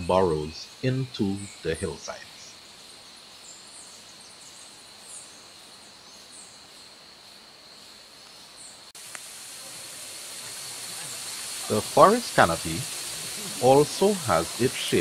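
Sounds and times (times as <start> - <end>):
hissing ambience: 0.0 - 15.0
insect hum: 0.0 - 15.0.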